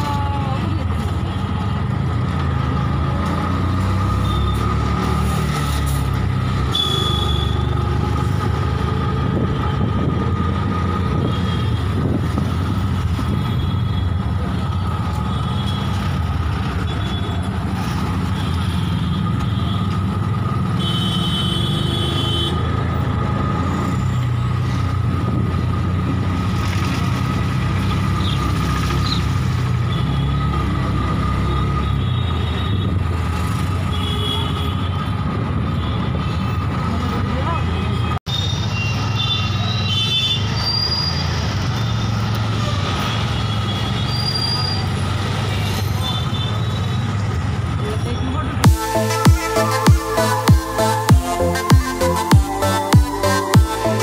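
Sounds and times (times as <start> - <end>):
vehicle engine drone and road noise: 0.0 - 54.0.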